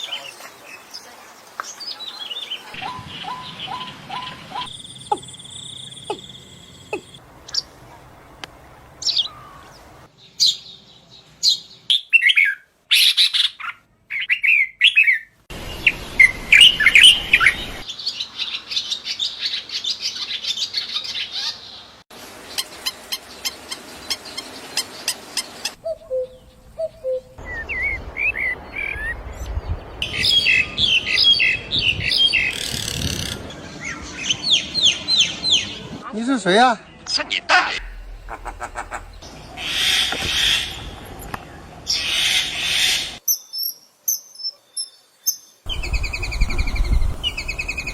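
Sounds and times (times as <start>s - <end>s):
songbirds singing: 0.0s - 36.0s, 36.6s - 47.9s.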